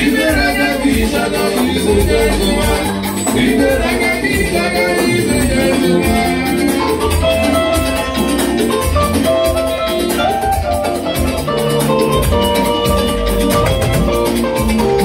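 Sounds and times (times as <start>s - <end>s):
electronic keyboards melody: 0.0s - 15.0s
steady drum beat: 0.0s - 15.0s.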